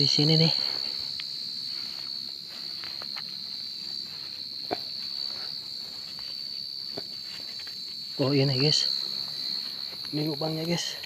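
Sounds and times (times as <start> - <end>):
cricket trilling: 0.0 - 11.0
soft rustles: 0.1 - 10.9.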